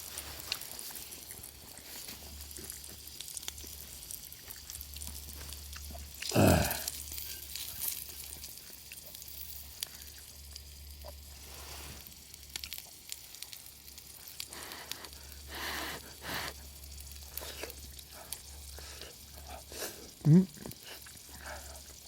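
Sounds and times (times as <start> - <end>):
food sizzling: 0.0 - 22.0
wood fire crackling: 0.0 - 22.0.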